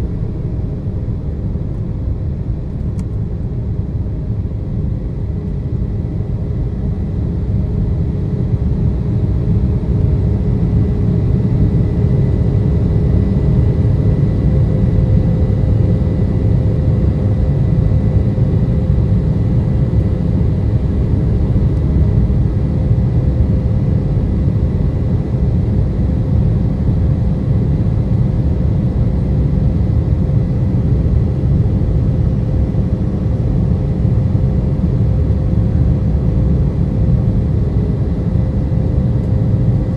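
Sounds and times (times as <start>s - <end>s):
jet engines rumbling in flight: 0.0s - 39.9s.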